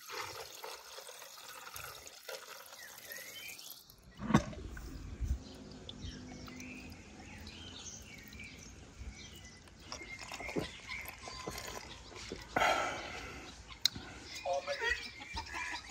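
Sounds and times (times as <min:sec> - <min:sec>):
juice trickling into a glass: 0:00.0 - 0:13.9
birds chirping: 0:02.5 - 0:15.9.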